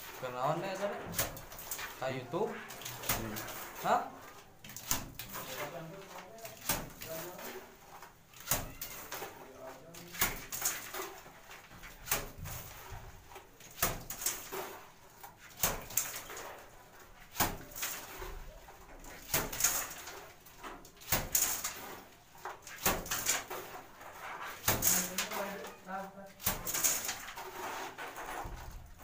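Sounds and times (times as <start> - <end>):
wet mortar splatting on wall: 0.1 - 29.0.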